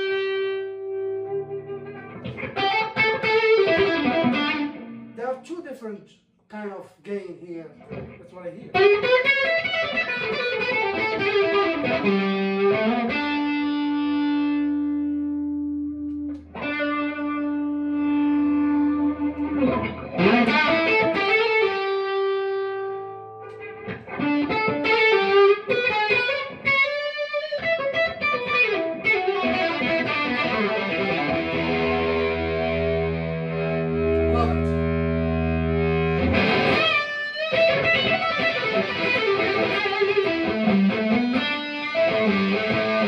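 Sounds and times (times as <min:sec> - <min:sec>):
distorted electric guitar: 0:00.0 - 0:05.2, 0:07.8 - 0:43.0.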